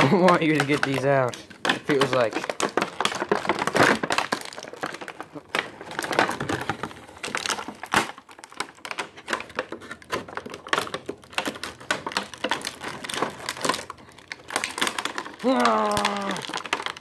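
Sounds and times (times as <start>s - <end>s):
plastic cracking: 0.0s - 17.0s
plastic packaging crinkling: 0.0s - 17.0s.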